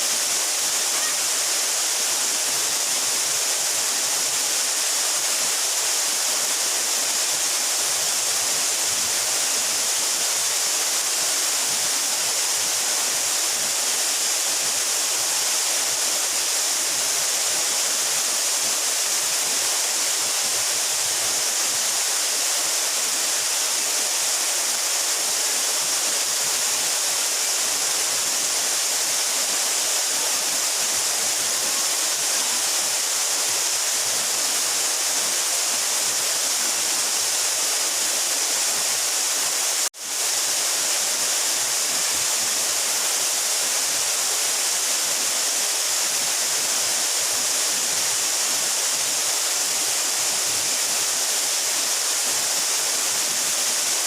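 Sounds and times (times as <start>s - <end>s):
waterfall rushing into pool: 0.0s - 54.0s.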